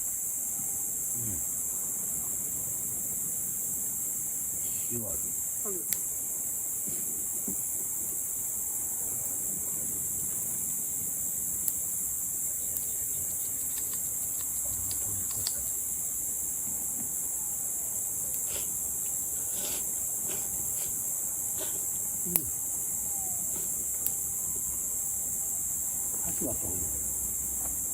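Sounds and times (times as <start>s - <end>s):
crickets chirping: 0.0s - 27.9s.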